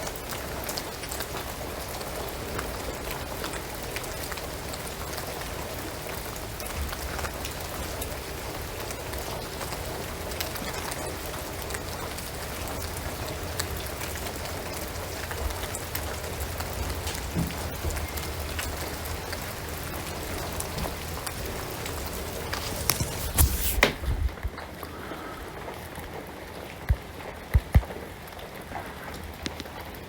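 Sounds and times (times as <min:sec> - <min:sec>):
rain on roof and trees: 0:00.0 - 0:30.0.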